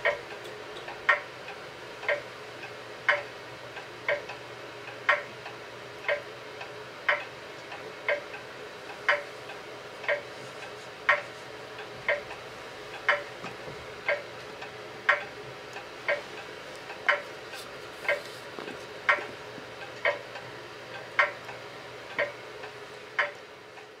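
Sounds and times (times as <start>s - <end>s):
clock ticking: 0.0s - 10.3s, 11.0s - 17.5s, 18.1s - 18.3s, 19.0s - 24.0s
faint steady hum: 0.0s - 24.0s.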